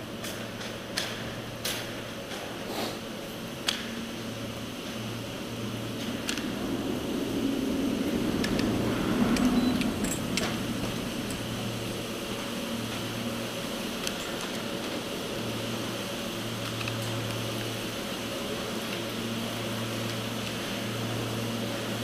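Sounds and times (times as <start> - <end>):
gondola machinery humming: 0.0 - 22.0
low drone: 3.1 - 22.0.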